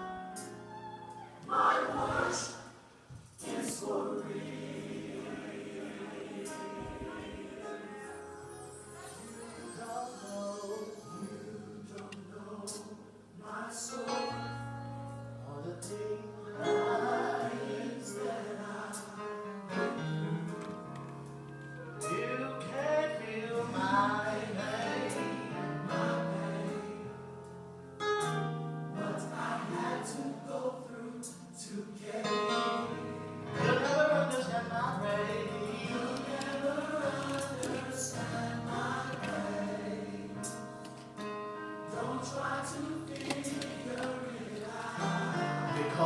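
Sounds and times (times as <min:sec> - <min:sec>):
choir and congregation singing: 0:01.4 - 0:14.8, 0:15.8 - 0:21.1, 0:22.0 - 0:27.3, 0:28.9 - 0:46.0.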